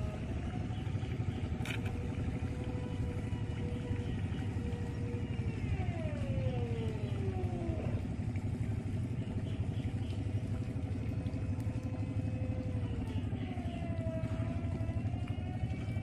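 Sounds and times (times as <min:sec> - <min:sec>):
motor low chugging: 0:00.0 - 0:16.0.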